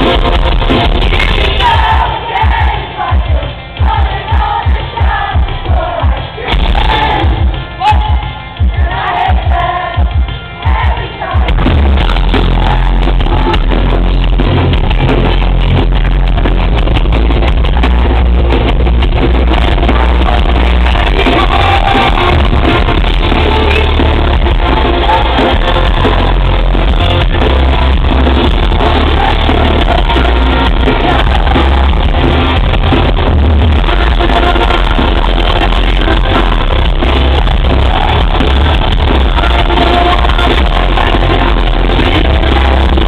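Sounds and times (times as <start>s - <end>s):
live pop-punk band playing: 0.0s - 43.0s.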